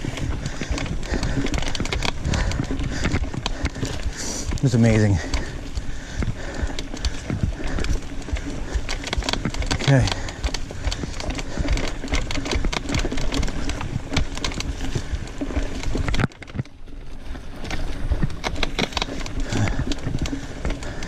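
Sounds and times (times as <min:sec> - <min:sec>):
bike clattering and rattling: 0:00.0 - 0:21.0
wind buffeting microphone: 0:00.0 - 0:21.0.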